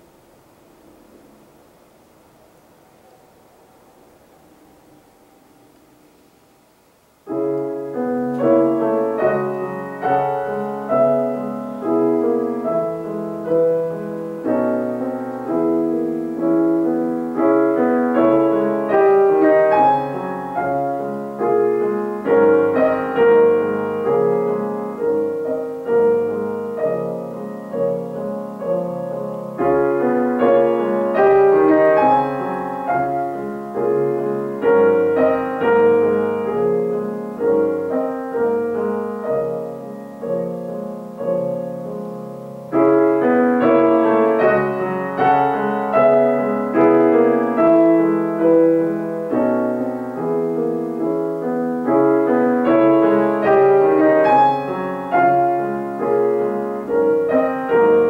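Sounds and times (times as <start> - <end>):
grand piano classical piece: 0.0 - 58.0.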